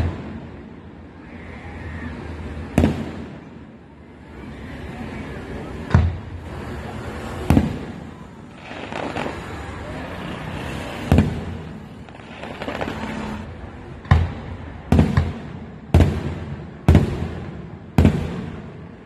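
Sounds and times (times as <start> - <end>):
background noise: 0.0 - 19.0.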